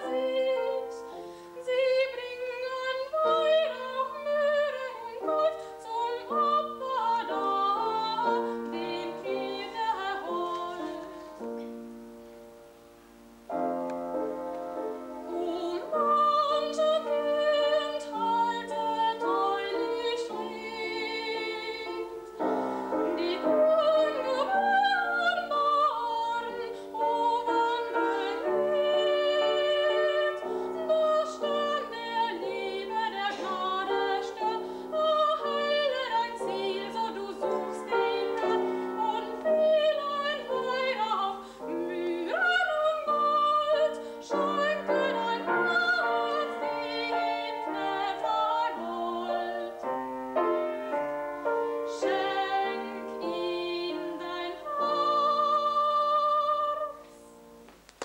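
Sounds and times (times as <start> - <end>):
woman singing with vibrato: 0.0 - 11.5, 15.1 - 50.0, 51.7 - 57.5
grand piano accompaniment: 0.0 - 58.0.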